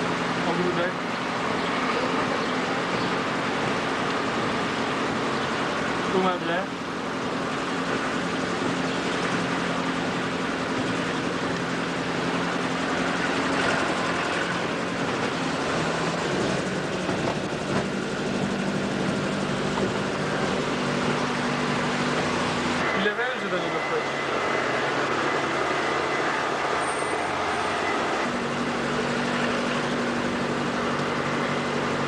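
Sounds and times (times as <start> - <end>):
car engine humming: 0.0 - 32.0
road and wind noise: 0.0 - 32.0.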